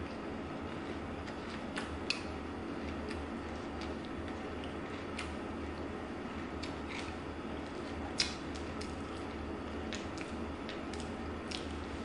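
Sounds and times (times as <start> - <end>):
chewing crunches: 0.0 - 12.0
steady low hum: 0.0 - 12.0.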